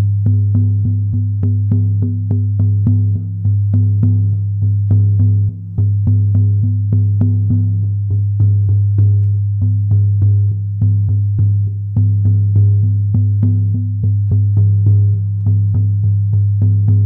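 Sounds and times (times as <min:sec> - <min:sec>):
frame drum beaten: 0:00.0 - 0:17.0.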